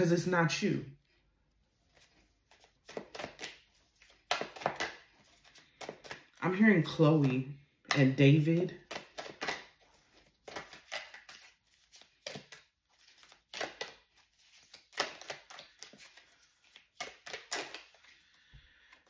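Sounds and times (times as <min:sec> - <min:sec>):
cards being shuffled: 0:01.7 - 0:19.0.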